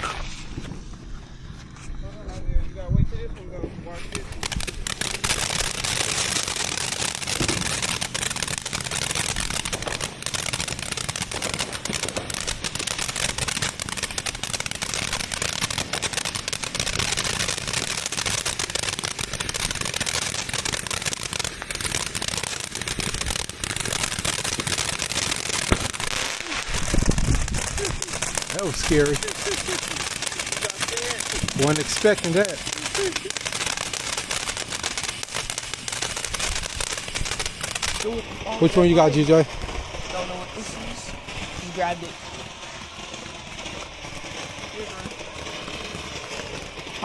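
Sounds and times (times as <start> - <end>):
firework crackling: 0.0 - 47.0.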